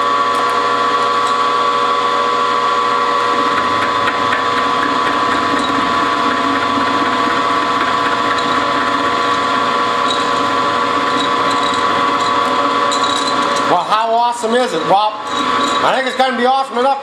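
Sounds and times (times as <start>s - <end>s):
milling machine whining: 0.0s - 17.0s.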